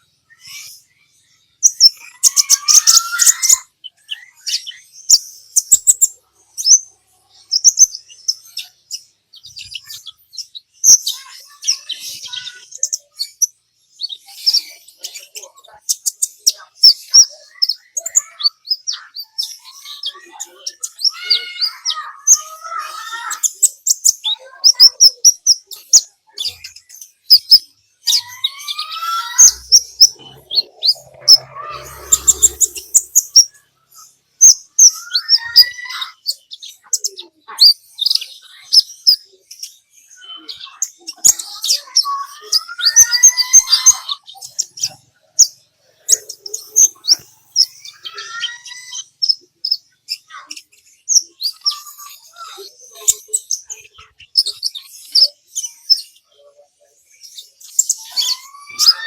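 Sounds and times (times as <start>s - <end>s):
sunbird song: 0.0s - 59.0s.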